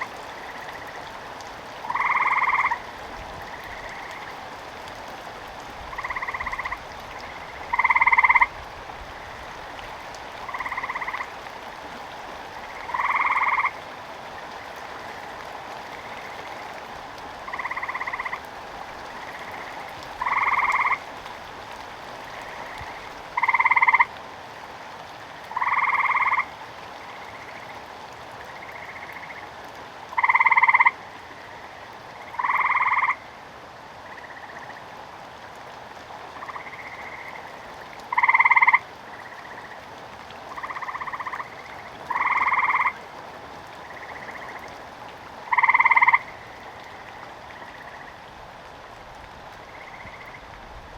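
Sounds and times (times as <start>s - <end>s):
frogs croaking: 0.0s - 4.6s, 5.5s - 21.1s, 21.7s - 24.7s, 25.3s - 33.3s, 34.0s - 48.3s, 49.6s - 50.5s
rain hiss: 0.0s - 50.9s.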